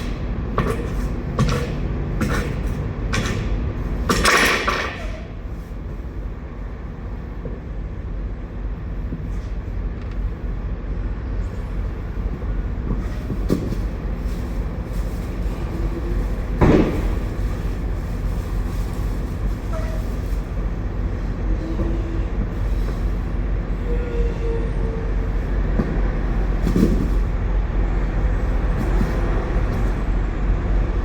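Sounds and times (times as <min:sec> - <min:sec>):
low mechanical rumble: 0:00.0 - 0:31.0.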